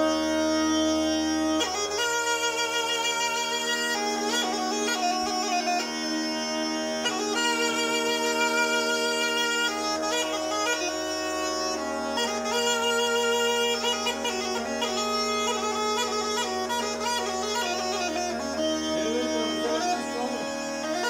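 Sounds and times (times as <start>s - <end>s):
bagpipe folk melody with drone: 0.0s - 21.0s.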